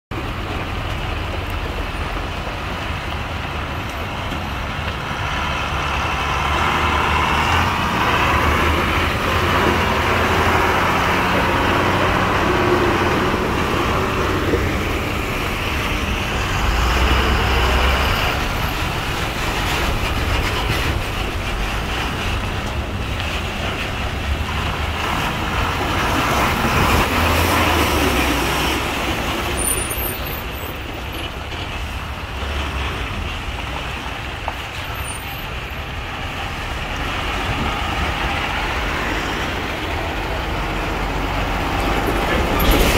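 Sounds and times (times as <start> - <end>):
road noise: 0.1 - 42.9.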